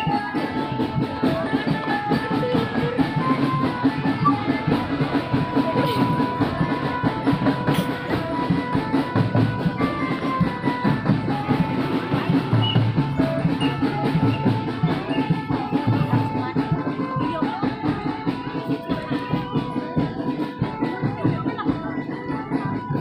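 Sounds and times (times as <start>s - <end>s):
fast marching drumming: 0.0s - 23.0s.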